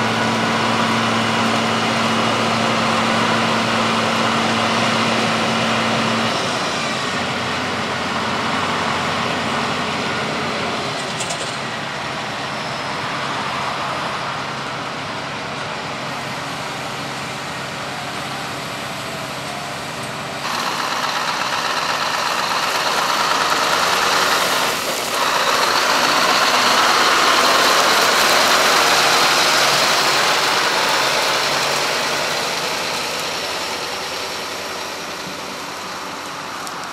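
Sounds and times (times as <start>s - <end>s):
loud noisy machine running: 0.0s - 12.6s, 13.4s - 36.9s
heavy machinery engines running: 0.0s - 36.9s.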